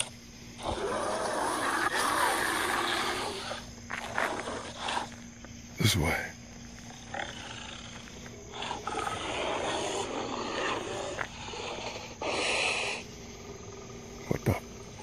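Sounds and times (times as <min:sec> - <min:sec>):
wild animal calling: 0:00.6 - 0:05.2, 0:06.9 - 0:15.0.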